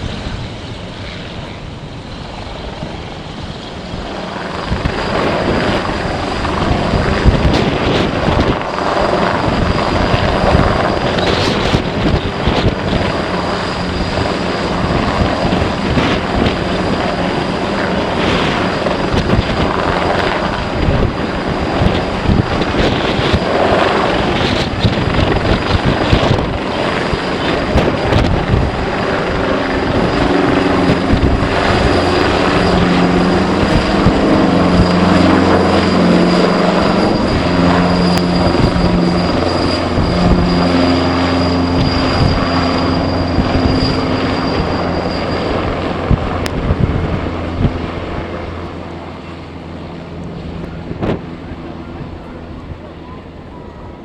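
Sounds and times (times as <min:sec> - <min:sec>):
aircraft engines droning: 0:00.0 - 0:54.0
high whine: 0:00.0 - 0:54.0
wind buffeting microphone: 0:00.0 - 0:54.0.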